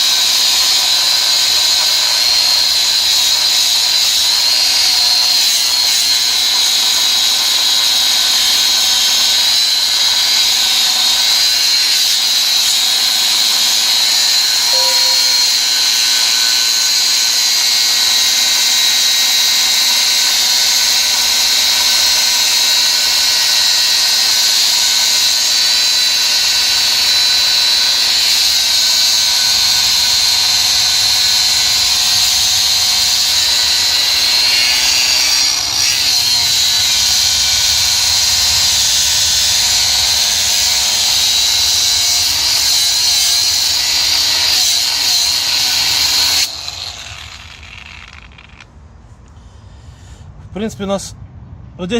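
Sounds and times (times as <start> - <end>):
angle grinder cutting steel: 0.0 - 48.7.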